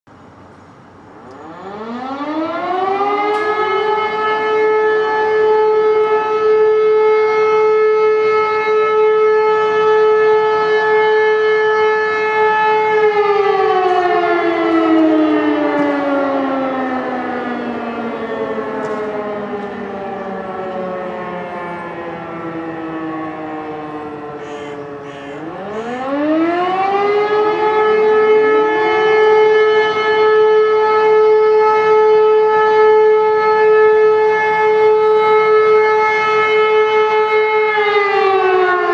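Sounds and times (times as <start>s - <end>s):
civil defence siren: 0.1s - 38.9s.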